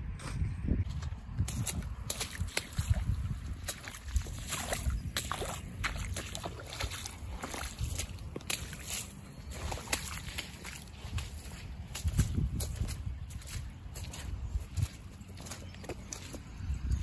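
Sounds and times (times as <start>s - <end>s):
boots squelching through mud and water: 0.9s - 17.0s.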